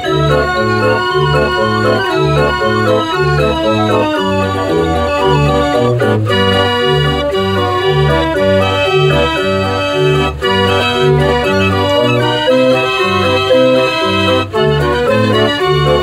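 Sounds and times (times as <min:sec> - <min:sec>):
street organ playing a tune: 0:00.0 - 0:16.0.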